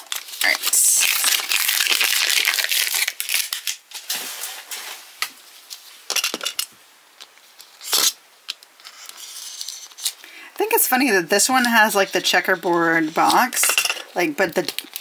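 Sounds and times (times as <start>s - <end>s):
plastic shrink wrap crinkling: 0.0s - 5.9s, 7.3s - 15.0s.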